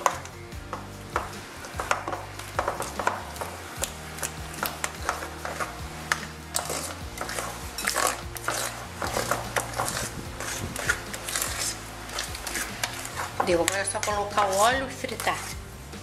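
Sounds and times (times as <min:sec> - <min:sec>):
utensil scraping glass bowl: 0:01.2 - 0:15.7.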